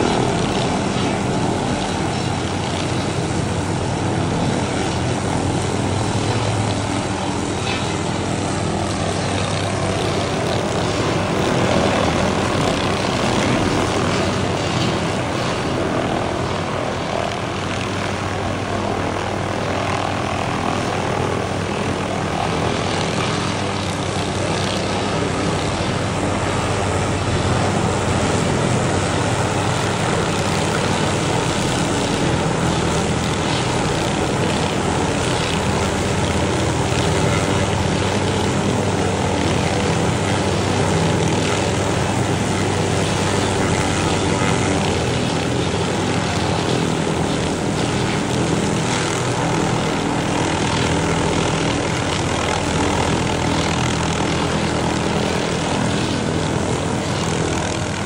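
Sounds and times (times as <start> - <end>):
helicopter drone overhead: 0.0 - 58.0.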